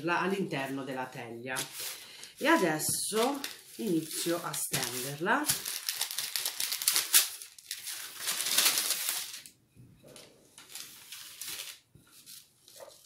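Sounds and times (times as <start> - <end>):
baking paper rustling: 1.5 - 9.5, 10.1 - 13.0.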